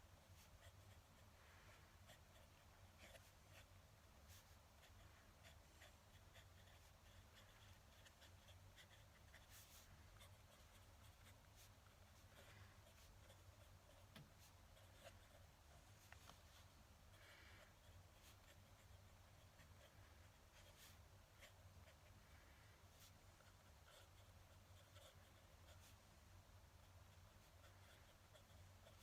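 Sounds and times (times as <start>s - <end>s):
faint low hum: 0.0s - 29.0s
pen nib scratching on paper: 0.2s - 1.4s, 2.0s - 22.2s, 23.0s - 26.0s, 26.7s - 29.0s.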